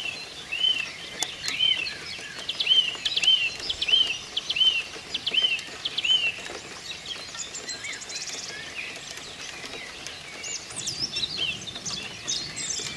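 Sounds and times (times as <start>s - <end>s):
songbirds singing: 0.0s - 12.9s.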